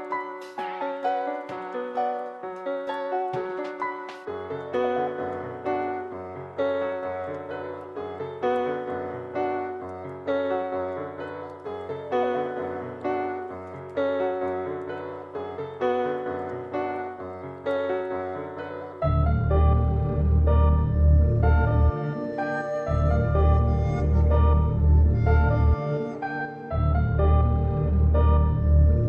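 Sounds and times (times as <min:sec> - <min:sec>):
slow keyboard melody: 0:00.0 - 0:29.0.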